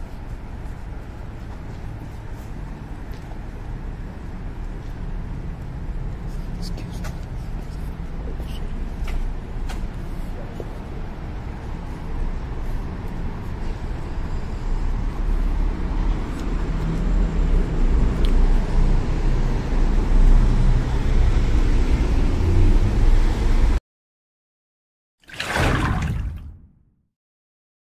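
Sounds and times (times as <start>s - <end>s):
street traffic rumble: 0.0s - 23.8s.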